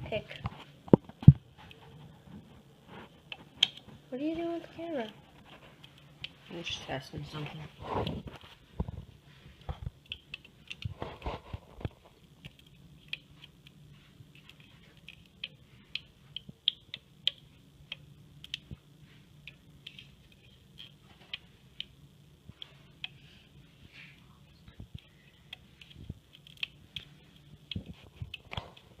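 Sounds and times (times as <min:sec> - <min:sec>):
faint room hum: 0:00.0 - 0:29.0.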